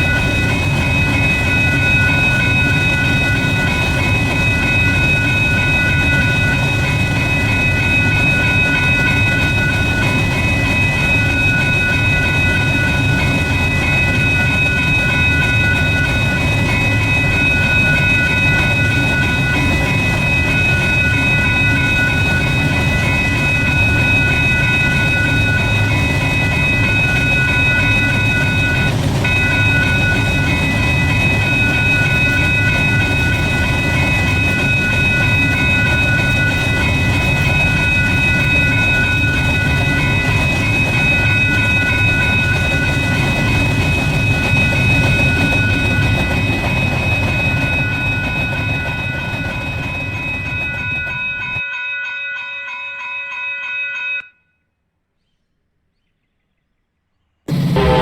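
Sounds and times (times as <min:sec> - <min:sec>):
train rumbling and wheel clatter: 0:00.0 - 0:52.0, 0:57.5 - 0:58.0
high-pitched ringing tones: 0:00.0 - 0:54.5, 0:57.5 - 0:58.0.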